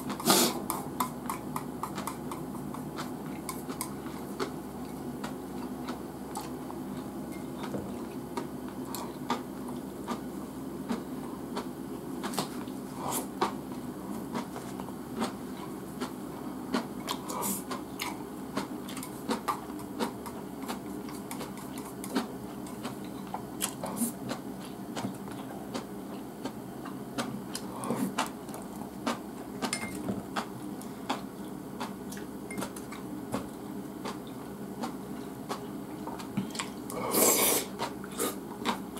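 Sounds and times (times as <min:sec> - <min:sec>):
person chewing: 0:00.0 - 0:38.9
steady low hum: 0:00.0 - 0:38.9.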